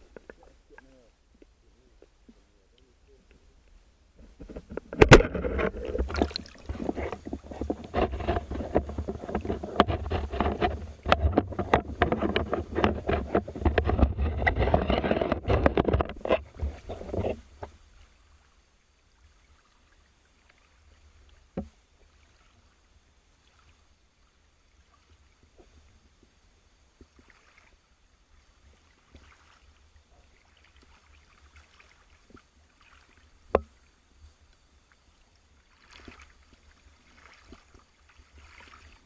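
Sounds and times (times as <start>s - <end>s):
water churning and splashing: 4.5s - 26.0s, 27.0s - 34.0s, 34.8s - 39.0s.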